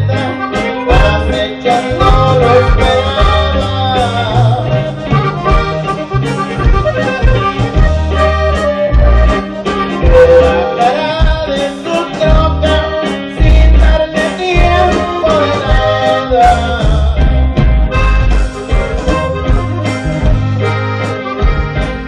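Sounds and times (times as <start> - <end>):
accordion melody: 0.0 - 22.0
bass line: 0.0 - 22.0
guitar: 0.0 - 22.0.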